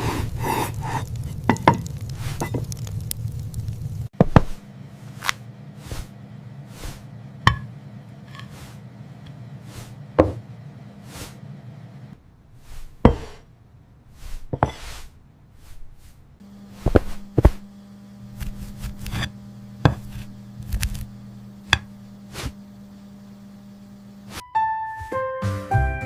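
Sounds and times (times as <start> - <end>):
steady low hum: 0.0 - 24.4.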